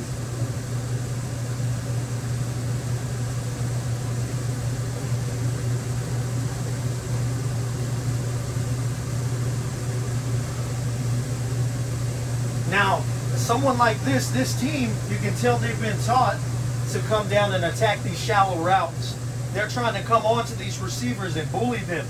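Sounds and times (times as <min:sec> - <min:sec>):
low mechanical hum with hiss: 0:00.0 - 0:22.0.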